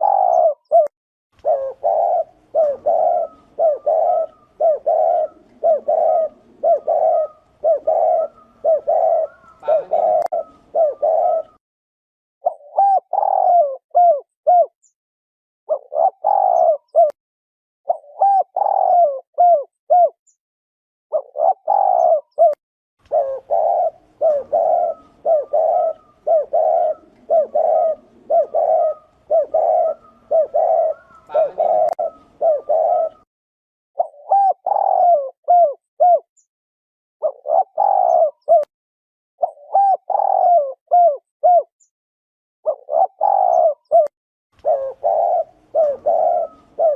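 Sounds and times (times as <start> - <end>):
dove cooing: 0.0 - 11.6, 12.4 - 14.8, 15.7 - 17.2, 17.9 - 20.2, 21.1 - 33.3, 34.0 - 36.3, 37.2 - 38.7, 39.4 - 41.7, 42.6 - 46.9.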